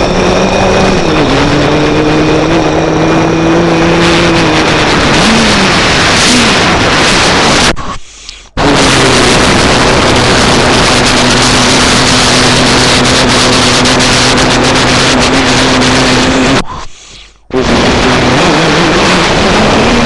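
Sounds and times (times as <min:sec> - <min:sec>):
road and wind noise: 0:00.0 - 0:16.9, 0:17.5 - 0:20.0
rally car engine at high revs: 0:00.0 - 0:20.0.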